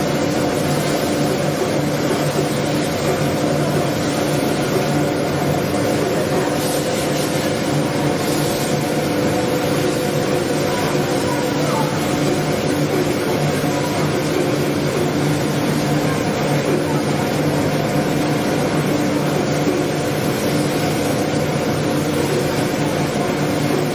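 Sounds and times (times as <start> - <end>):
workshop machinery humming: 0.0 - 23.9.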